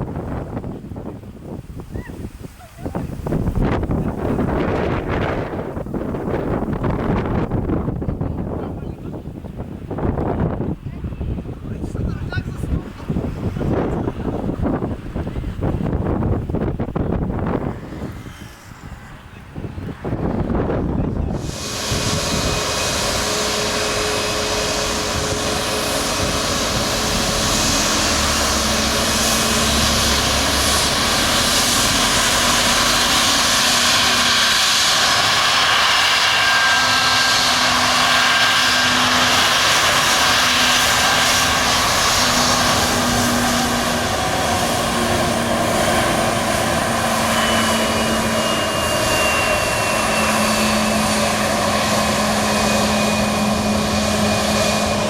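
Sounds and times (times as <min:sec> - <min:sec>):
airliner engines running: 0:00.0 - 0:55.0.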